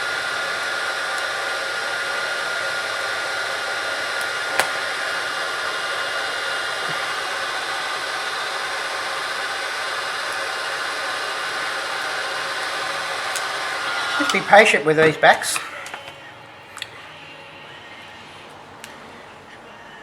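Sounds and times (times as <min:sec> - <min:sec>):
heat gun blowing with whine: 0:00.0 - 0:20.0.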